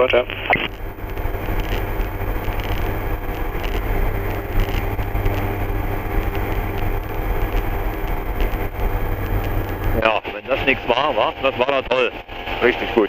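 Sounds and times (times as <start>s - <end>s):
ultralight aircraft engine droning: 0.0s - 13.0s.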